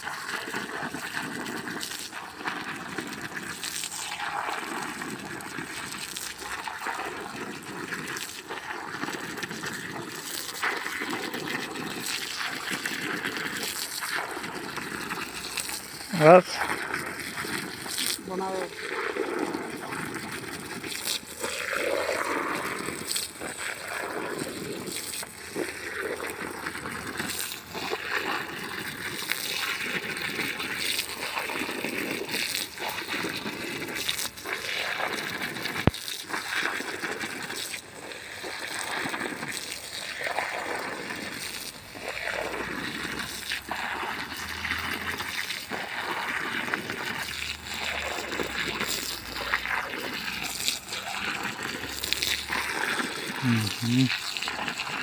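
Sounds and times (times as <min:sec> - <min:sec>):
liquid spraying onto soil: 0:00.0 - 0:55.0.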